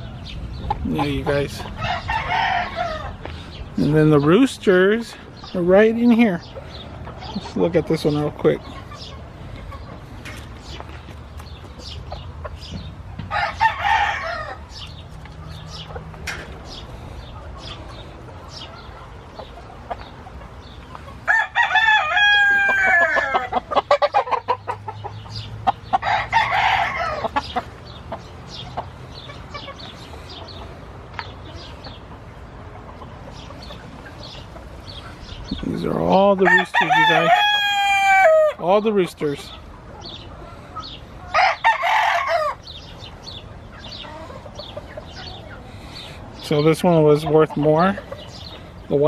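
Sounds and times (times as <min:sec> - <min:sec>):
roosters crowing: 0:00.0 - 0:10.8, 0:11.8 - 0:48.8
chickens clucking: 0:00.0 - 0:49.0.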